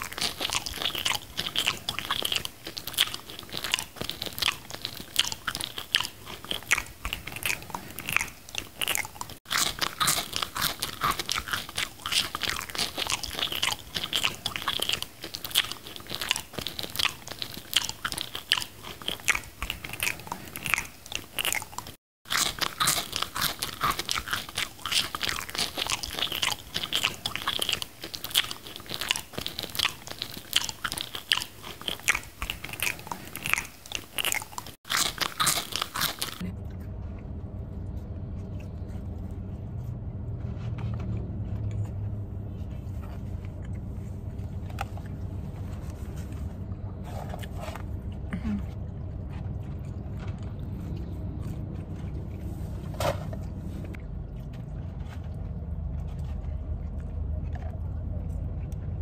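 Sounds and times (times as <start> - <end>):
person chewing burger crunching: 0.0 - 59.0.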